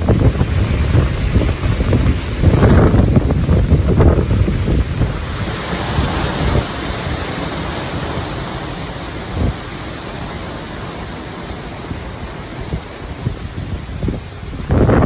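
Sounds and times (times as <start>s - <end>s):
rain hissing: 0.0s - 15.0s
wind buffeting microphone: 0.0s - 15.0s.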